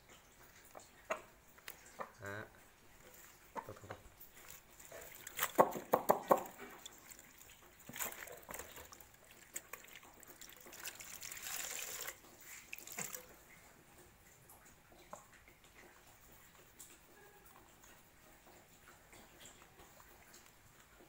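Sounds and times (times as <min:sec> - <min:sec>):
wet dripping towel rubbing: 0:00.1 - 0:21.0.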